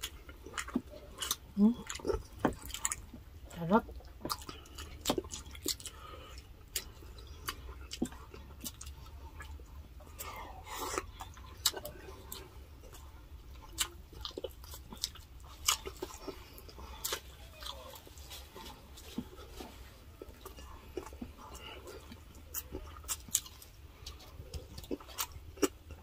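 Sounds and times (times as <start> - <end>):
chewing and lip smacks: 0.0 - 3.3, 3.9 - 26.0
low steady hum: 0.0 - 26.0.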